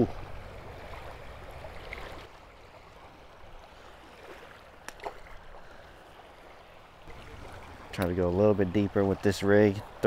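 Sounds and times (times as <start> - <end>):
small waves lapping: 0.0 - 10.0.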